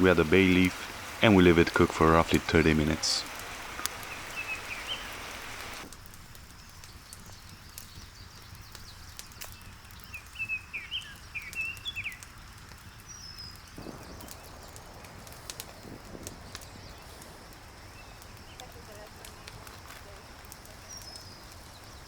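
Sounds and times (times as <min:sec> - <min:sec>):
small birds chirping: 0:00.0 - 0:22.0
wood fire crackling: 0:00.0 - 0:22.0.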